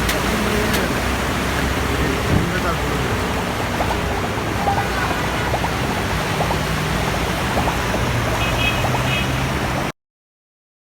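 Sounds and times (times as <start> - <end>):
floodwater rushing: 0.0 - 9.9.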